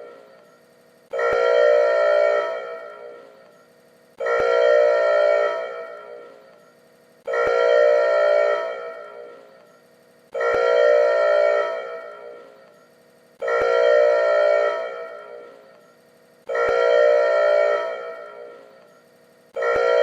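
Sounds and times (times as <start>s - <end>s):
factory alarm multi-tone blasts: 0.0s - 20.0s.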